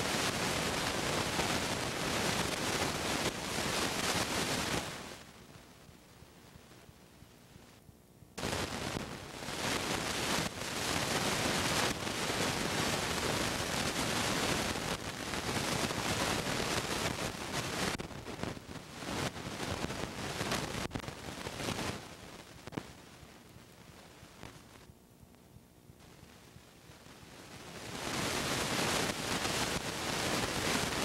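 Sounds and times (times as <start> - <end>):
rushing static hiss: 0.0 - 7.8, 8.4 - 24.9, 26.0 - 31.0.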